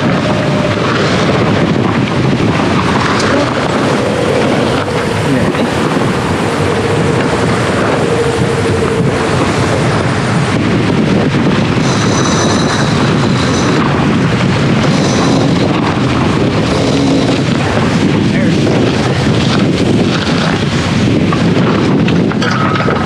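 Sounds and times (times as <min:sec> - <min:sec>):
water rushing along hull: 0:00.0 - 0:23.0
wind buffeting microphone: 0:00.0 - 0:23.0.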